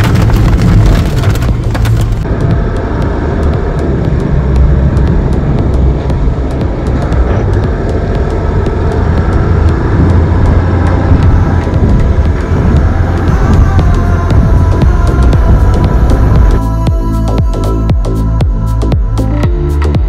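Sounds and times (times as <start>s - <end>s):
vehicle tyres rumbling on sand: 0.0s - 16.6s.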